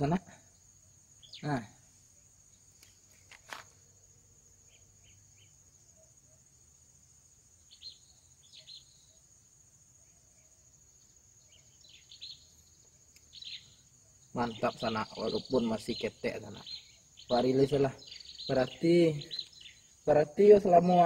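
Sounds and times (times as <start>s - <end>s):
bird chirps: 0.0s - 3.3s, 4.5s - 6.5s, 7.5s - 21.0s
high-pitched insect trill: 0.0s - 21.0s.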